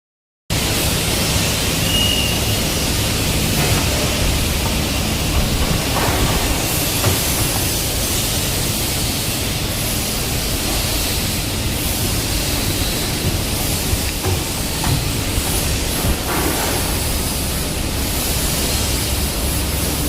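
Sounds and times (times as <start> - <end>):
machine hiss: 0.5 - 20.0.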